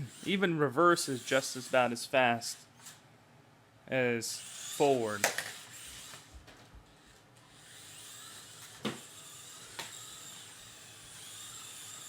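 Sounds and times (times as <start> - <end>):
toy car electric motors whirring: 0.0 - 3.0, 4.3 - 12.0.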